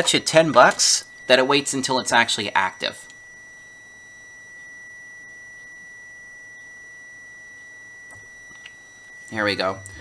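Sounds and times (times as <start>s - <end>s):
multimeter continuity beep: 0.0s - 10.0s.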